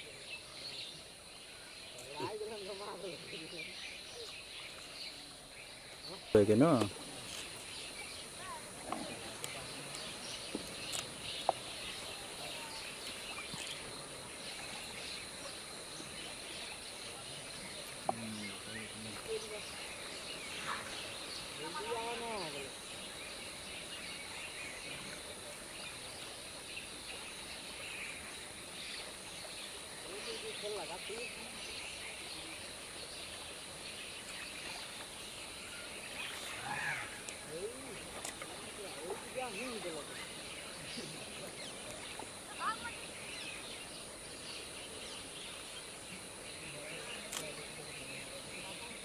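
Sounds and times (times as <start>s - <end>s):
faint human voices: 0.0s - 33.6s, 35.7s - 49.0s
high insect hum: 0.0s - 49.0s
small birds chirping: 0.0s - 49.0s.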